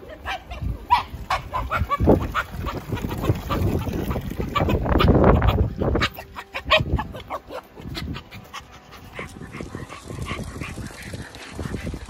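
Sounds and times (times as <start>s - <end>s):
dog panting: 1.5s - 12.0s.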